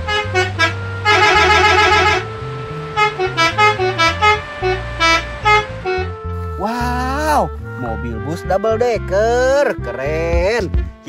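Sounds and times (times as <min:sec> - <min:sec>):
upbeat horn-like melody music: 0:00.0 - 0:11.0.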